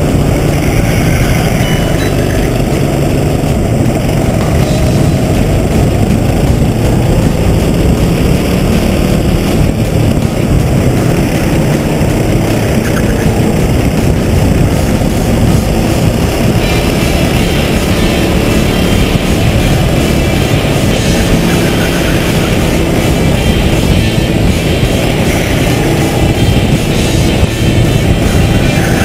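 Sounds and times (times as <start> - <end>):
go-kart engine running hard: 0.0 - 29.0.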